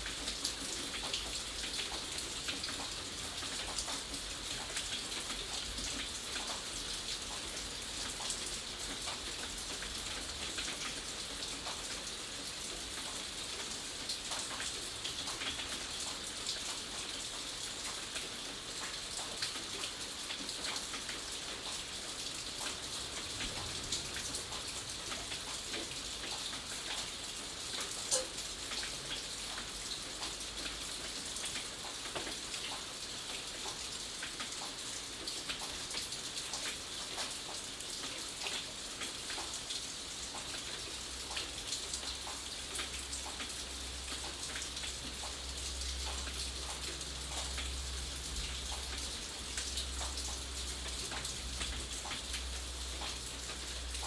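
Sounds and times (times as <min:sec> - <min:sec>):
raindrops pattering on a surface: 0:00.0 - 0:54.0
steady rain falling: 0:00.0 - 0:54.0.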